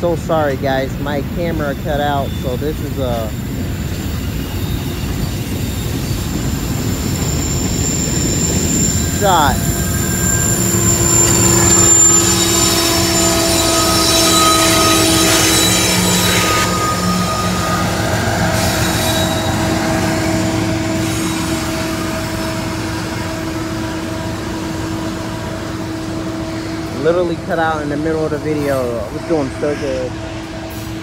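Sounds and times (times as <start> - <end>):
train wheels rumbling on rail: 0.0 - 31.0
high wheel squeals: 1.1 - 31.0.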